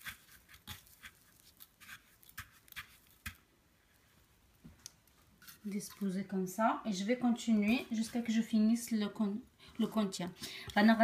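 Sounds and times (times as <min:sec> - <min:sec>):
breadcrumbs rustling: 0:00.0 - 0:11.0.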